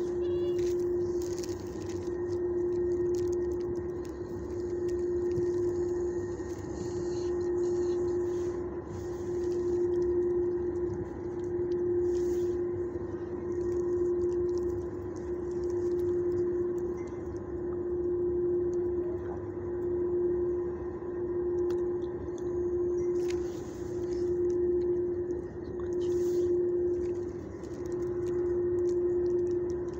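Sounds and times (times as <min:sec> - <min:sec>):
steady mechanical hum: 0:00.0 - 0:29.9.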